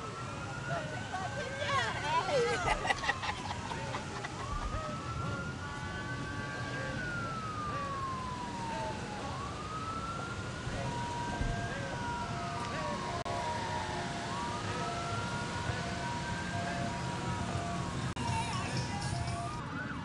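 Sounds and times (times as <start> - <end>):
emergency siren wailing: 0.0 - 20.0
vehicles driving past: 0.0 - 20.0.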